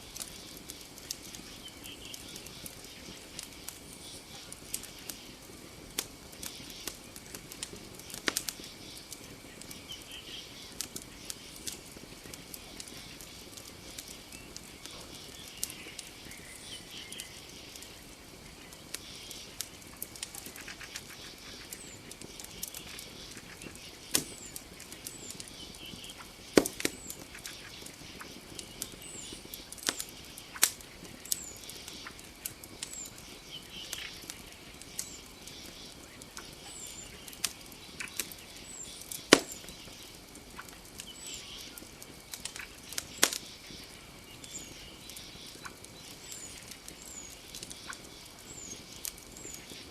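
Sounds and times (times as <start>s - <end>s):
campfire crackling and popping: 0.0s - 49.9s
night insects droning: 0.0s - 49.9s.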